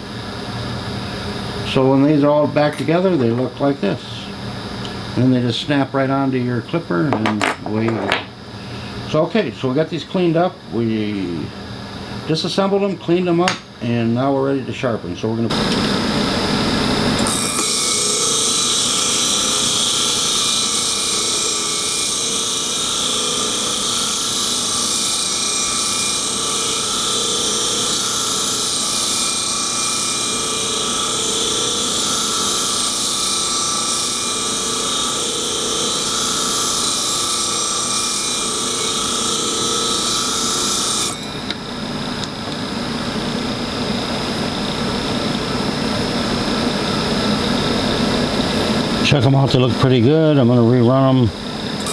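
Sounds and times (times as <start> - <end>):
steady machine hum: 0.0 - 51.9.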